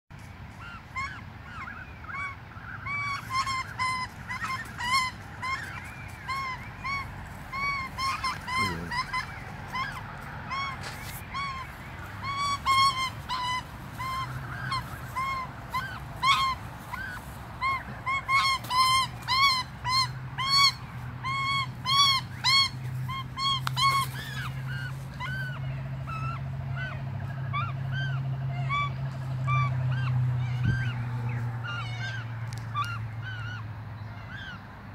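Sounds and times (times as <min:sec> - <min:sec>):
magpies squawking: 0:00.5 - 0:34.7.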